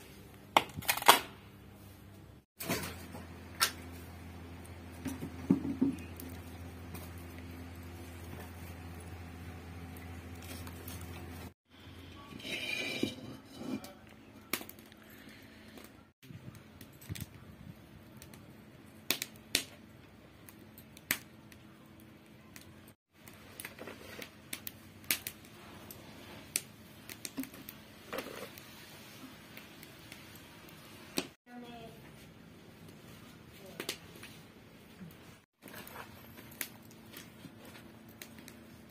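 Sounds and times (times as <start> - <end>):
wood fire burning: 2.6 - 38.9.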